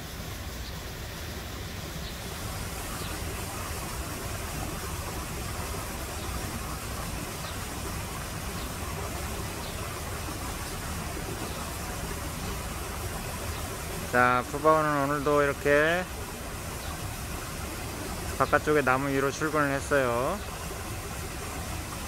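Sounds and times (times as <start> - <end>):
even hiss: 0.0 - 22.0.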